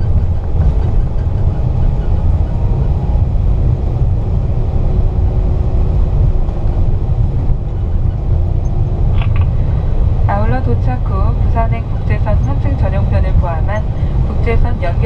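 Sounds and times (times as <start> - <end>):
low rumble of aircraft engines: 0.0 - 15.0
faint steady hum: 1.4 - 15.0.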